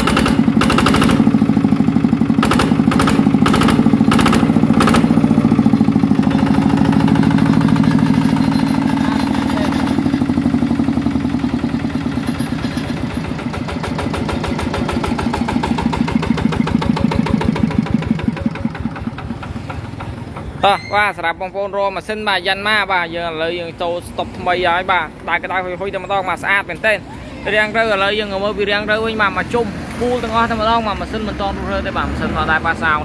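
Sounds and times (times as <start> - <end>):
diesel engine chugging: 0.0 - 33.0.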